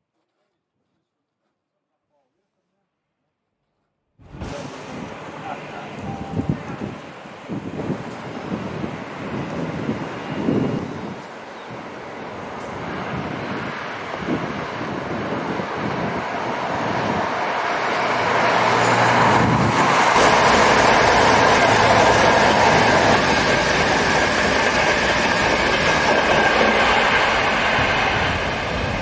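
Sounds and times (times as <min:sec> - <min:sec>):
train passing at speed: 0:04.2 - 0:29.0.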